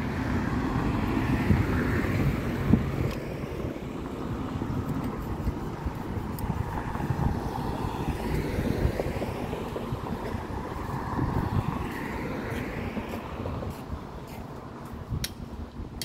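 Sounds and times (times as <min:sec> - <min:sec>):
car passing: 0:00.0 - 0:15.1
road traffic noise: 0:00.0 - 0:16.0
wind buffeting microphone: 0:00.0 - 0:16.0.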